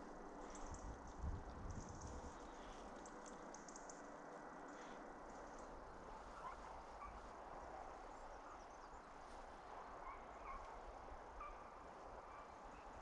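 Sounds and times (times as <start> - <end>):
faint bird chirps: 2.1 - 13.0.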